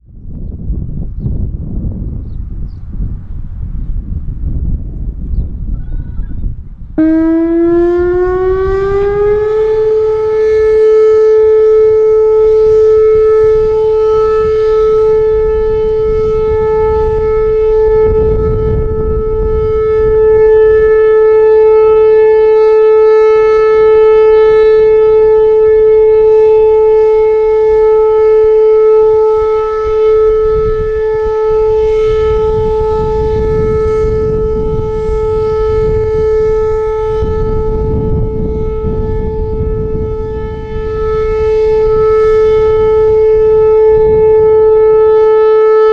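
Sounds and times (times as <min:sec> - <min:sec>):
electronic warning siren: 0:07.0 - 0:45.9.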